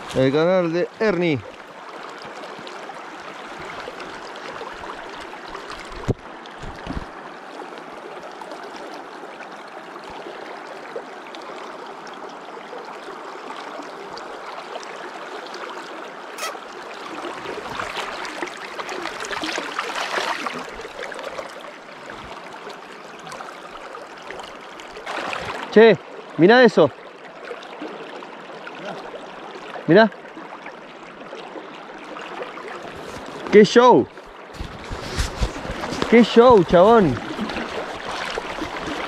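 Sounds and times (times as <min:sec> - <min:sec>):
river water running: 0:00.0 - 0:39.0.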